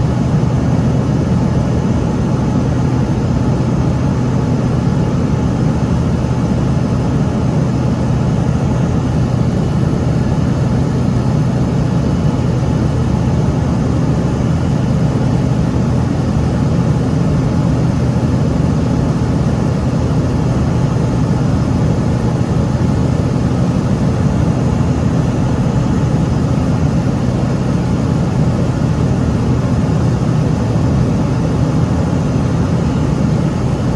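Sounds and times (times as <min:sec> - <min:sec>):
jet engine drone in cabin: 0:00.0 - 0:33.9.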